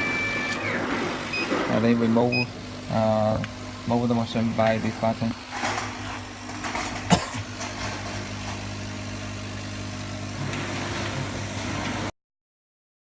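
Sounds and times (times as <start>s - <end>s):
laser cutter mechanical hum: 0.0s - 12.1s.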